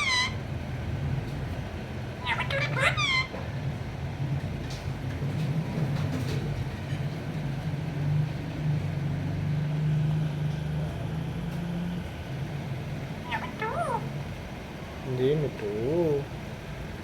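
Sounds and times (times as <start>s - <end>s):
faint background rumble: 0.0s - 17.0s
low mechanical hum: 0.0s - 17.0s.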